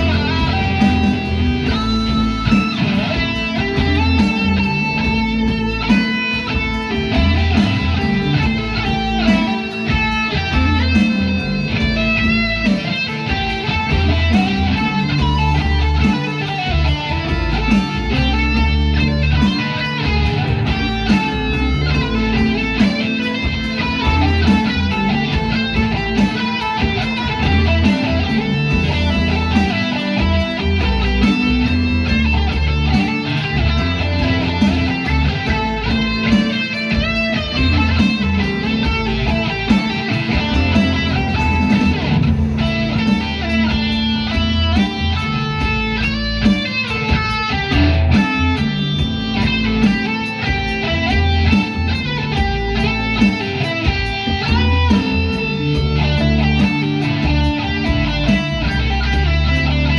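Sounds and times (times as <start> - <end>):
bass line: 0.0 - 59.9
guitar music: 0.0 - 59.9
steady beat: 0.0 - 59.9.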